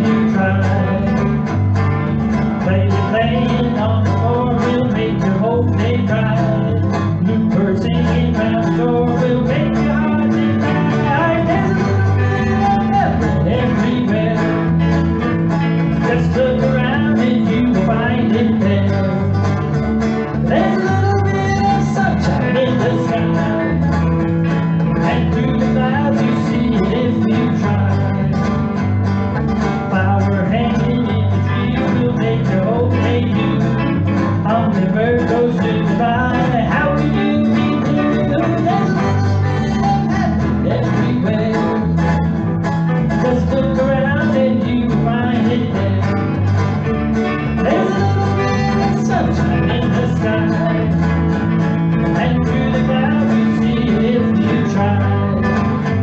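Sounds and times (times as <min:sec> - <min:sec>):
man singing: 0:00.0 - 0:28.9, 0:29.6 - 0:56.0
gospel band playing: 0:00.0 - 0:56.0.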